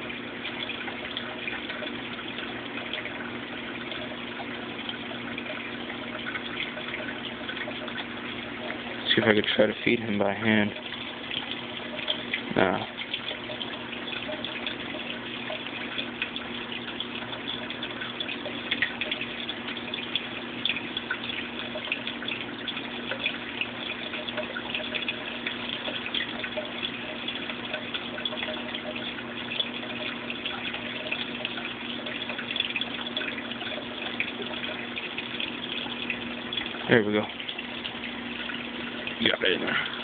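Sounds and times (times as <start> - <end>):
crackling bubbles: 0.0 - 40.0
low steady hum: 0.0 - 40.0
trickle of running water: 0.0 - 40.0.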